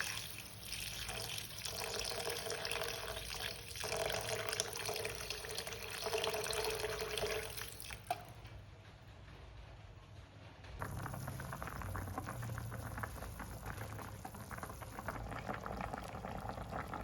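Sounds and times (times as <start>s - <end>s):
tap water running into sink: 0.0s - 8.3s, 10.8s - 17.0s.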